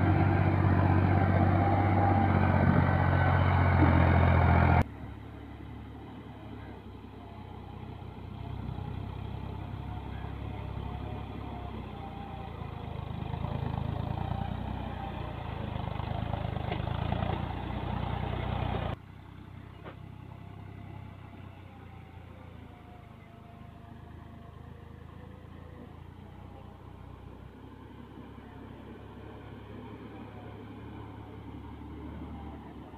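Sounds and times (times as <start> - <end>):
faint steady engine: 0.0 - 32.9
tractor diesel engine running: 0.0 - 32.9.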